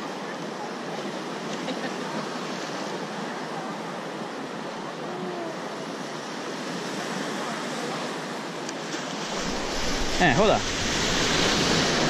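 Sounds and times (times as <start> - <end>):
sea waves washing against shore: 0.0 - 12.0.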